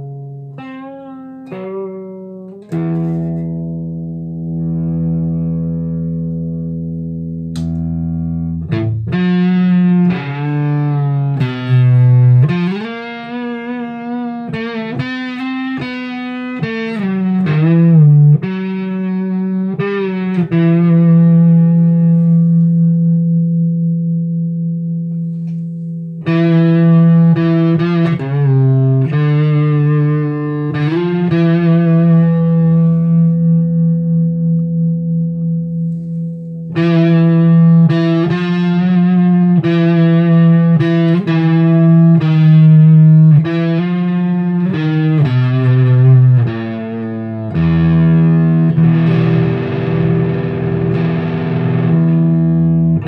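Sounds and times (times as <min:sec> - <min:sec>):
distorted electric guitar chords: 0:00.0 - 0:53.0.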